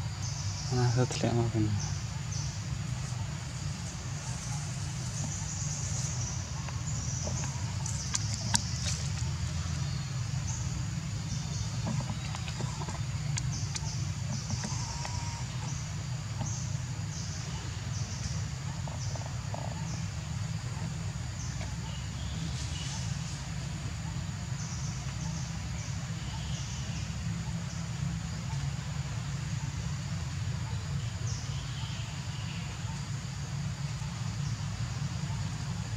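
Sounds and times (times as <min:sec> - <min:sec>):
steady low rumble: 0:00.0 - 0:35.9.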